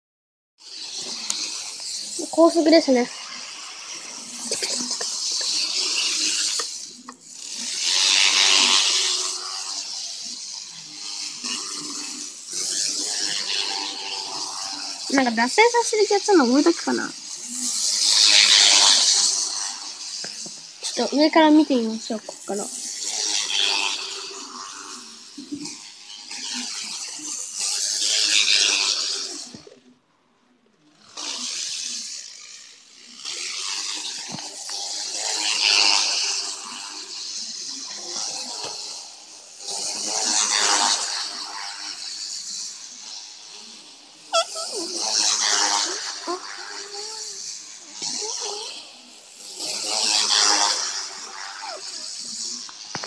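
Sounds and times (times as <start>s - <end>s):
model train whirring on track: 0.6s - 53.0s.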